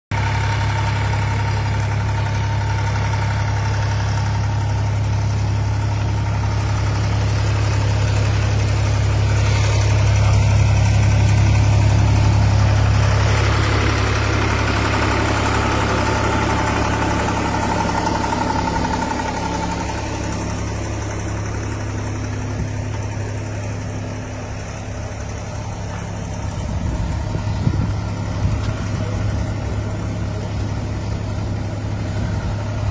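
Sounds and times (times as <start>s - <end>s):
milling machine motor hum: 2.6s - 32.9s.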